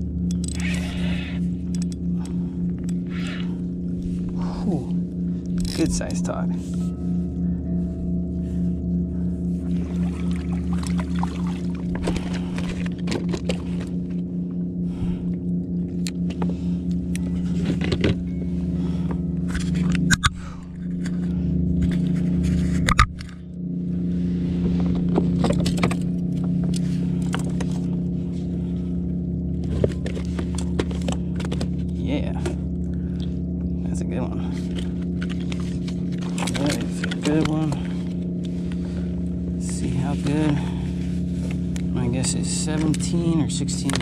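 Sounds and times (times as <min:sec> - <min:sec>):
low droning hum: 0:00.0 - 0:44.0.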